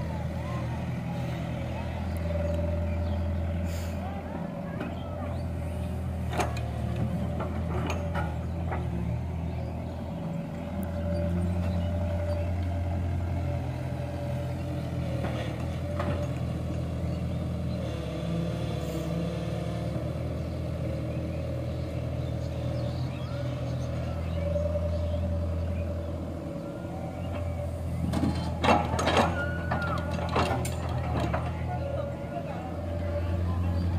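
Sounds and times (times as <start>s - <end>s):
tractor engine idling: 0.0s - 17.8s, 20.2s - 33.9s
excavator diesel engine: 0.0s - 33.9s.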